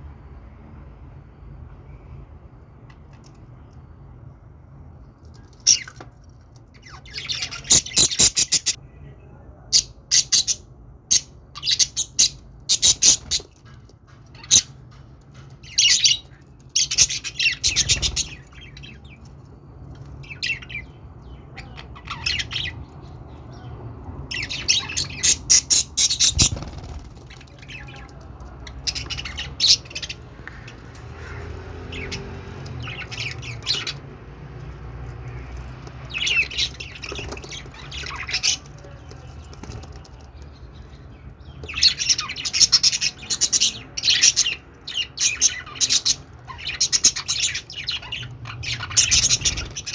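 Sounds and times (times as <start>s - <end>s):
budgerigars chirping and chattering: 5.4s - 6.0s, 6.7s - 49.9s.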